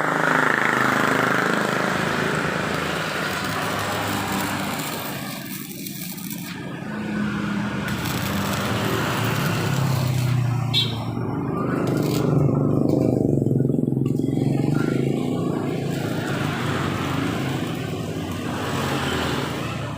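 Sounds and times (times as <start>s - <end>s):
vehicle engine running: 0.0s - 18.0s
road noise: 0.0s - 19.9s.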